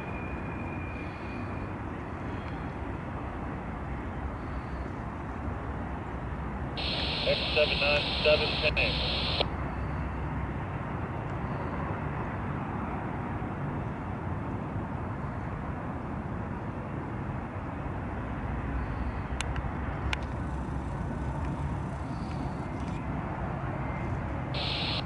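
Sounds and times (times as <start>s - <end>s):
diesel locomotive drone: 0.0s - 25.0s.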